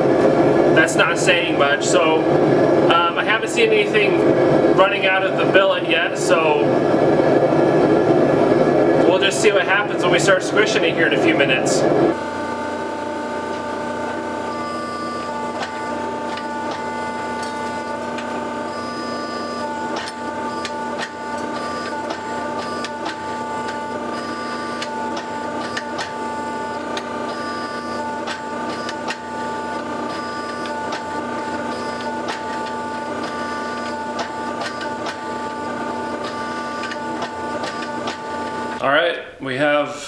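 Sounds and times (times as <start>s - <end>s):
hydraulic press motor whine: 0.0s - 38.8s.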